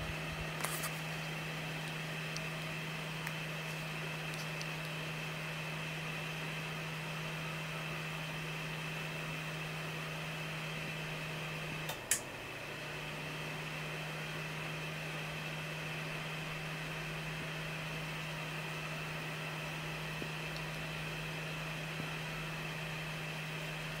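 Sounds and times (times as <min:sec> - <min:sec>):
electrical hum with faint hiss: 0:00.0 - 0:24.0.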